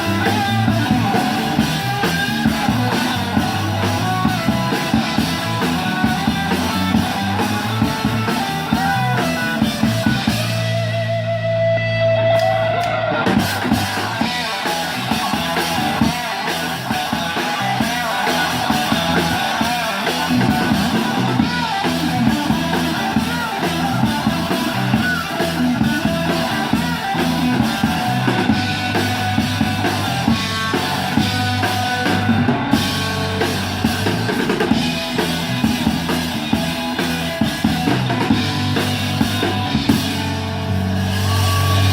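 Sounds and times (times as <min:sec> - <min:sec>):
drum kit beat: 0:00.0 - 0:41.9
live rock band playing: 0:00.0 - 0:41.9.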